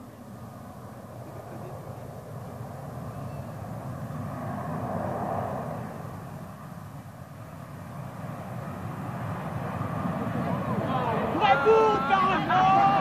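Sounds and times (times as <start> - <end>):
distant jet aircraft engine: 0.0 - 13.0.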